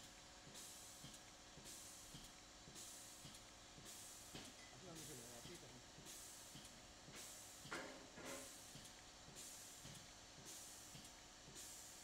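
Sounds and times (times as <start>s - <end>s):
batter depositing machine hiss: 0.4s - 12.0s.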